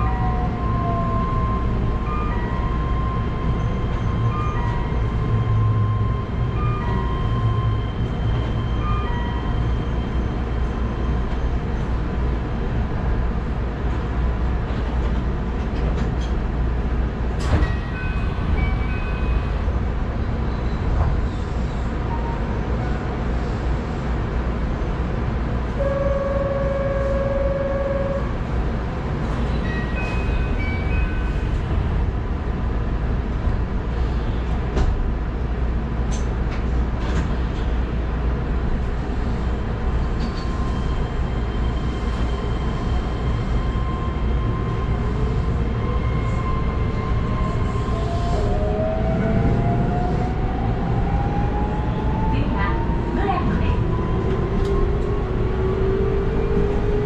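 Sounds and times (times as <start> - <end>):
low hum of stopped train: 0.0 - 57.0.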